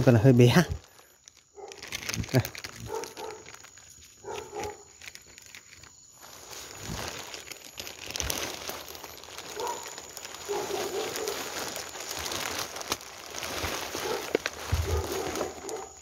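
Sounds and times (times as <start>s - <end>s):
plastic sheeting crinkling: 0.0s - 16.0s
twigs snapping in undergrowth: 1.2s - 16.0s.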